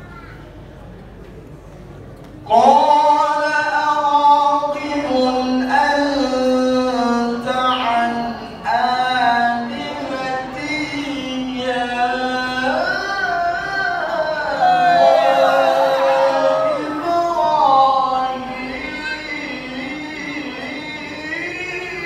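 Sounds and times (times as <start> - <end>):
melodic recitation voice: 2.5 - 22.0.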